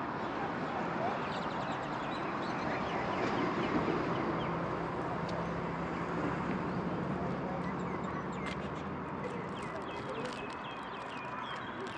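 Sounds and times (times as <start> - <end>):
traffic noise: 0.0 - 11.9.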